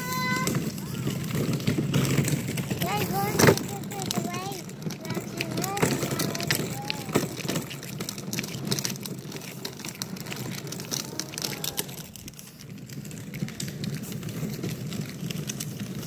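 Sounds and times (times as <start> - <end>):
plastic wagon wheels rolling on asphalt: 0.0 - 16.0.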